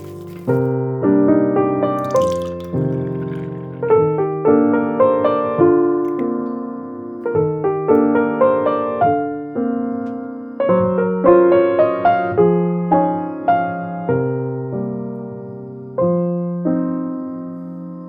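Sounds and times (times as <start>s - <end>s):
gentle solo piano piece: 0.0s - 18.0s.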